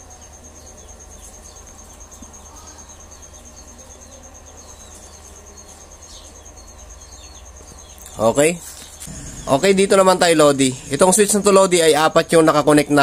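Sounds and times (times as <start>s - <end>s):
cricket trilling: 0.0s - 13.0s
low background hum: 0.0s - 13.0s.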